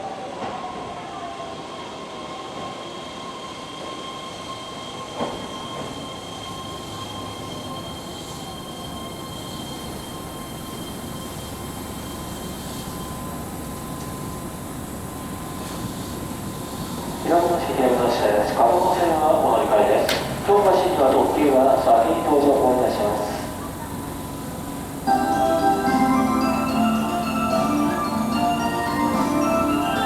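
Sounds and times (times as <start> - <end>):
train two-tone electrical whine: 0.0 - 30.0.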